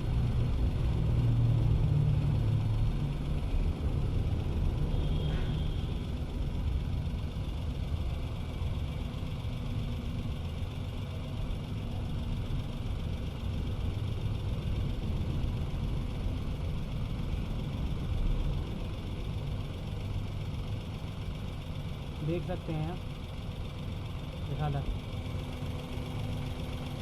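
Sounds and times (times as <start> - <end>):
car engine idling with misfire: 0.0 - 27.0.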